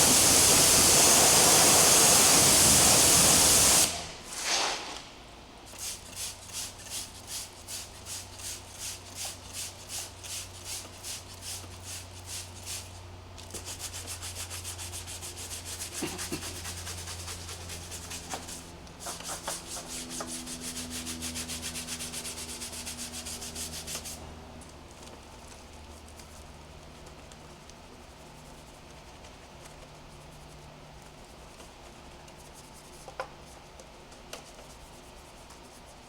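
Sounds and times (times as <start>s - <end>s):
cloth rubbing car paintwork: 0.1s - 24.2s, 24.9s - 36.0s.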